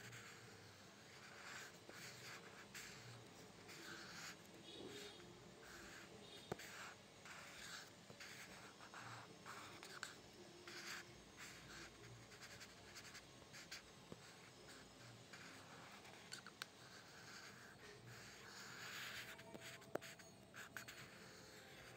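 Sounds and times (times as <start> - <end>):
pencil scratching on paper: 0.0 - 21.9.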